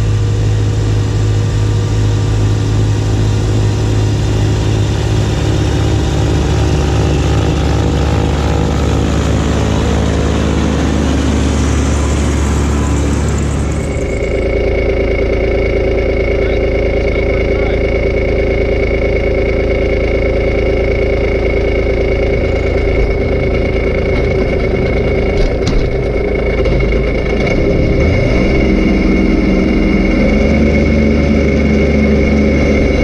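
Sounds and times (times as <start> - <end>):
steady high whine: 0.0 - 33.0
tractor diesel engine running: 0.0 - 33.0.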